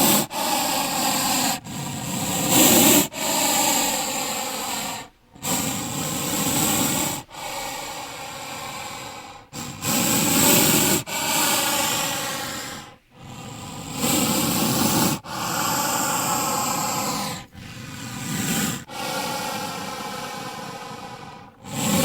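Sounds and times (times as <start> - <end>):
snake hissing: 0.0 - 22.0.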